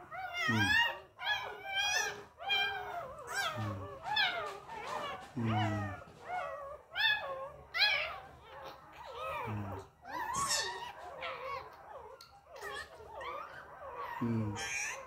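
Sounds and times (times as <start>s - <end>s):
puppy crying in high squeals: 0.0s - 15.0s.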